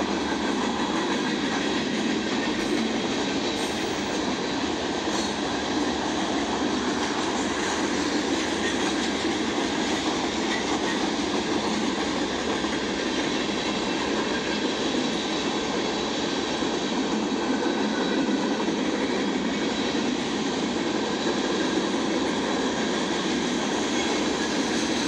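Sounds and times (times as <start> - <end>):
steel wheels on rail: 0.0 - 25.0.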